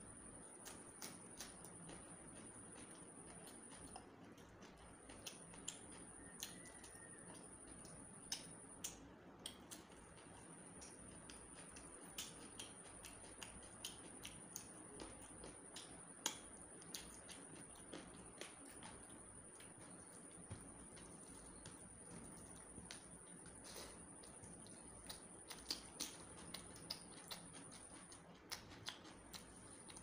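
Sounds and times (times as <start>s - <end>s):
faint high-pitched whine: 0.0s - 30.0s
mouth chewing food: 0.0s - 30.0s.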